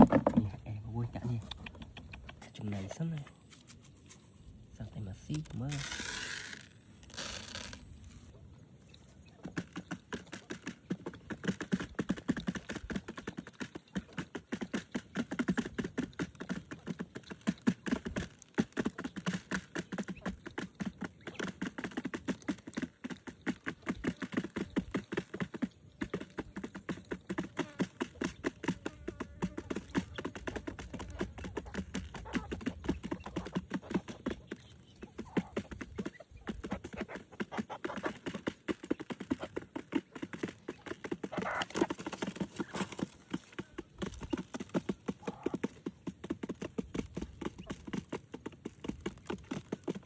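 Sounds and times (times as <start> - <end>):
rapid tapping and clicking: 9.4 - 50.0.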